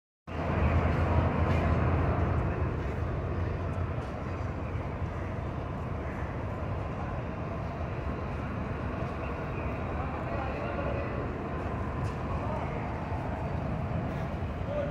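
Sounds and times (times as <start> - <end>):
low engine rumble: 0.3 - 14.9.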